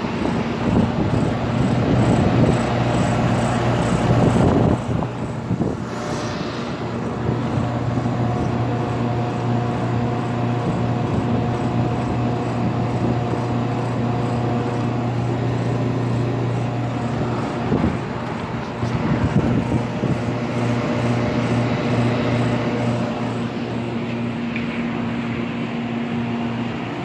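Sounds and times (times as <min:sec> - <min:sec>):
fan rushing: 0:00.0 - 0:26.9
compressor humming: 0:00.0 - 0:27.0.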